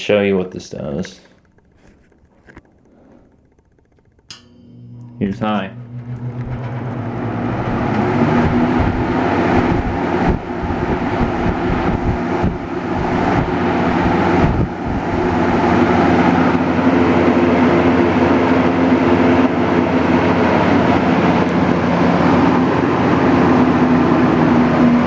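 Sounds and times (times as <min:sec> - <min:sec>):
box fan running: 0:00.0 - 0:25.0.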